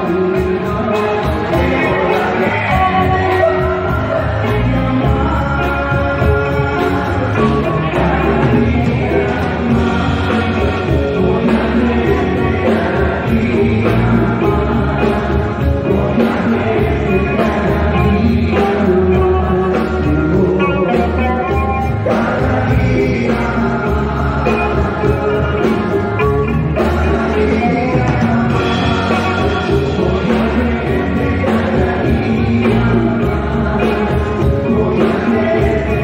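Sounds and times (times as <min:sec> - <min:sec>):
drum kit: 0:00.0 - 0:36.0
electric bass: 0:00.0 - 0:36.0
electric guitar: 0:00.0 - 0:36.0
keyboard: 0:00.0 - 0:36.0
men singing: 0:00.0 - 0:36.0.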